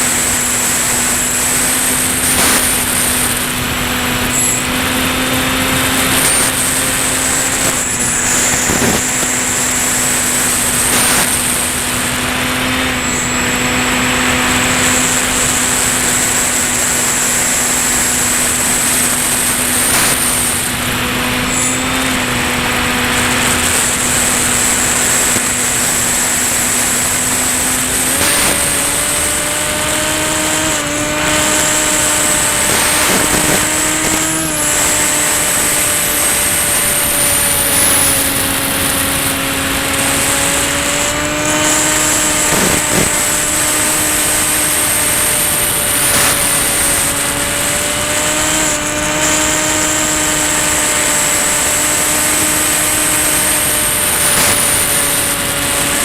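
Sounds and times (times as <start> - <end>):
rushing air noise: 0.0 - 13.8, 14.6 - 48.3
model plane motor whine: 0.0 - 56.0.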